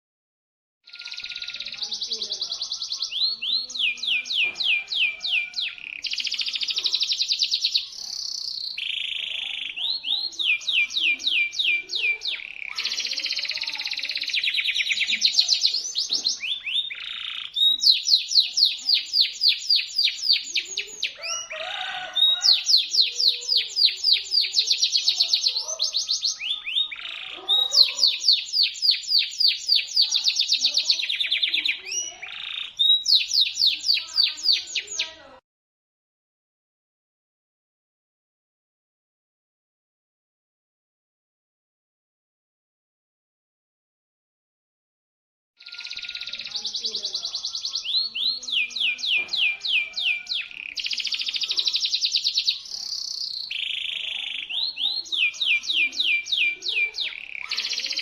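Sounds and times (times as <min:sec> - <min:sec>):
canary singing: 0:00.8 - 0:35.4, 0:45.6 - 0:58.0.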